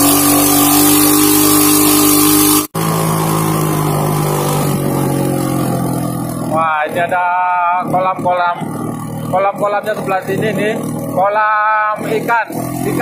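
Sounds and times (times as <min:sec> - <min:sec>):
motorcycle engine climbing: 0:00.0 - 0:13.0.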